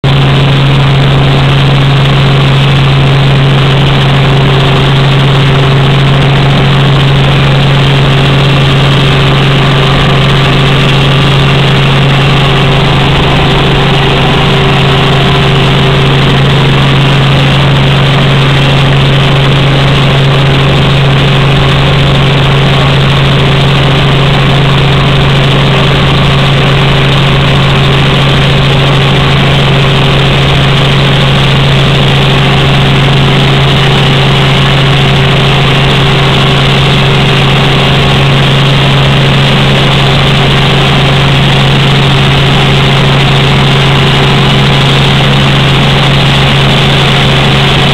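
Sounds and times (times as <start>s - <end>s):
helicopter engine and rotors: 0.0s - 47.9s.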